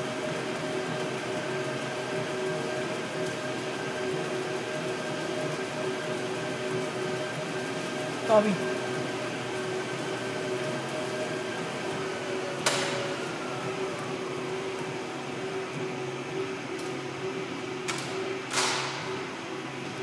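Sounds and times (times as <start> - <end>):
treadmill running hum: 0.0 - 20.0.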